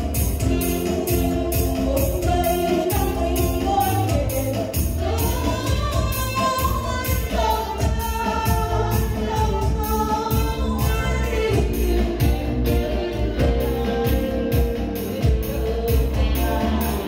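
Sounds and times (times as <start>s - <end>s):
music with steady beat: 0.0s - 17.0s
voices singing: 0.0s - 17.0s.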